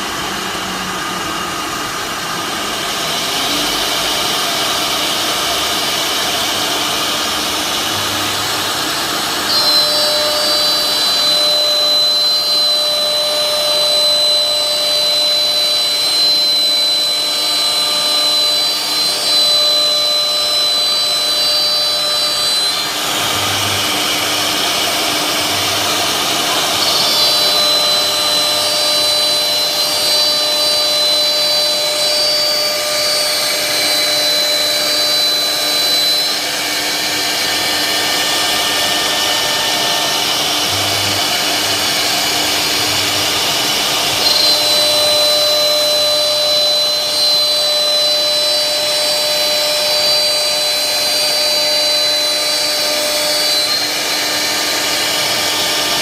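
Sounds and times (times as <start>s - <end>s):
high whine: 0.0s - 56.0s
router cutting wood: 0.0s - 56.0s.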